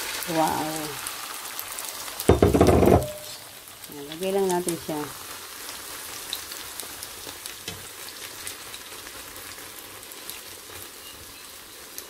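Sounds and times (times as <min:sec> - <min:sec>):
omelette sizzling in frying pan: 0:00.0 - 0:12.0.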